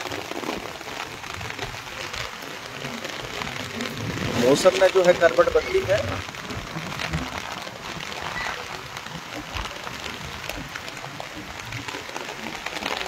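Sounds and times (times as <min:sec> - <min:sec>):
heavy rain: 0:00.0 - 0:13.0
raindrops striking close by: 0:00.0 - 0:13.0
wind: 0:00.0 - 0:13.0.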